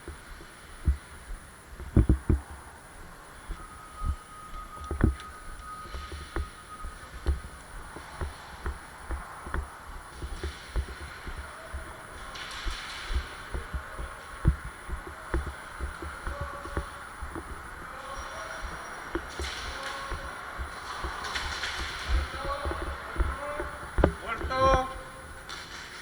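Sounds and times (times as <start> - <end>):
footsteps thumping: 0.0 - 26.0
gear clicks and knocks: 0.0 - 26.0.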